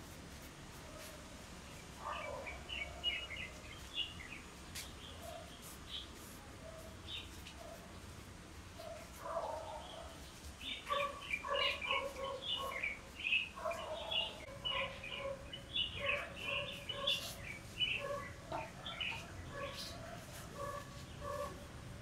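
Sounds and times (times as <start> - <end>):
birds calling: 0.8 - 22.0.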